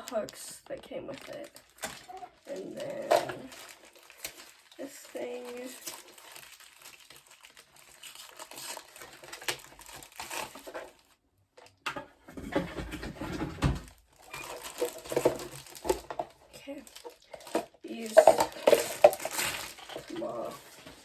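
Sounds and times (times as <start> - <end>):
packaging rustling and crinkling: 0.0 - 11.8, 12.4 - 21.0.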